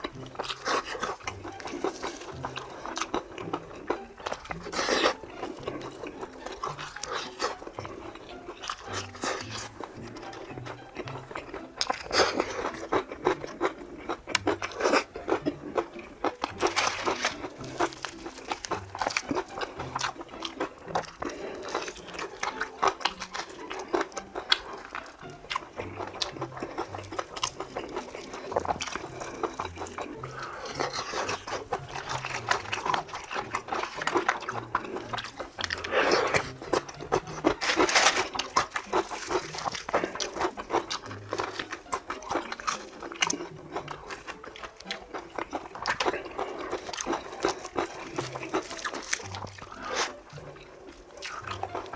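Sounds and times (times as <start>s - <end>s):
crunching and chewing: 0.0s - 51.9s.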